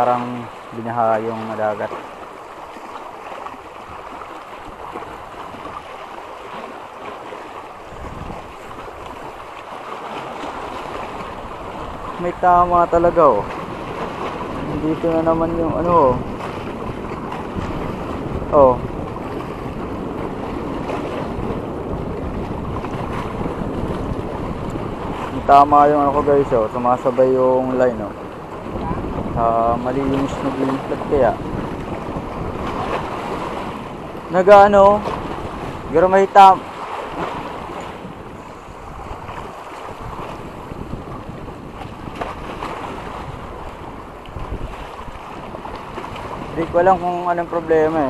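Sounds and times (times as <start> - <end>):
sea waves washing: 0.0 - 48.0
wind buffeting microphone: 0.0 - 48.0.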